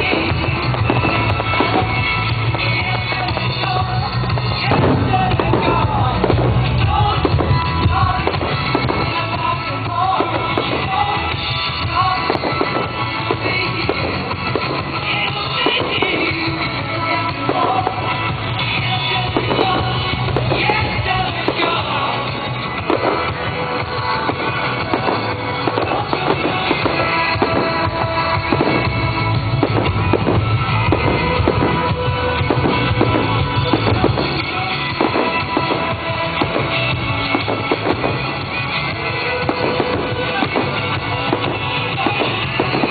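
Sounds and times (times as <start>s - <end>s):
fireworks bursting: 0.0s - 42.9s
loud song playing: 0.0s - 42.9s.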